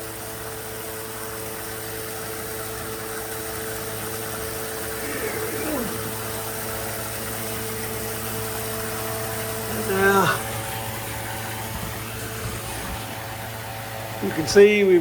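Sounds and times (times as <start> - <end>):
sump pump humming: 0.0 - 15.0.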